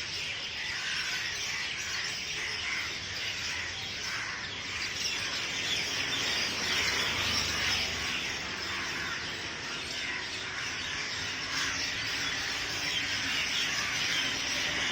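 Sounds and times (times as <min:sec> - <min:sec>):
chorus of birds chirping: 0:00.0 - 0:14.9.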